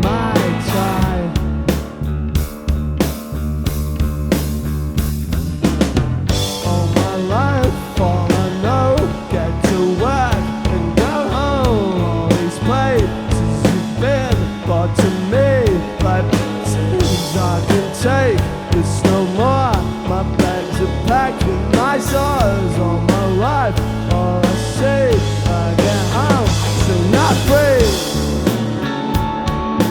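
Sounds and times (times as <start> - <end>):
swooping melodic lead line: 0.0 - 3.0, 5.4 - 29.9
bass line: 0.0 - 29.9
drums: 0.0 - 29.9
live rock band playing: 0.0 - 29.9.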